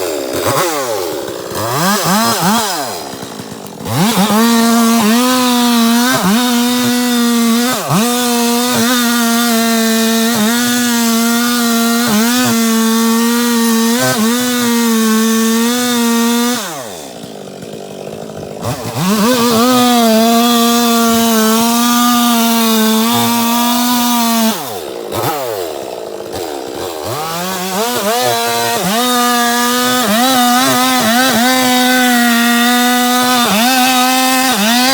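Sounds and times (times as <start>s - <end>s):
chainsaw revving and cutting wood: 0.0s - 34.9s.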